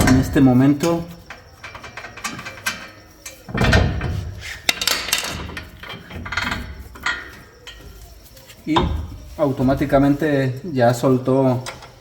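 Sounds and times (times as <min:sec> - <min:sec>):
metal tools clanking: 0:00.0 - 0:12.0.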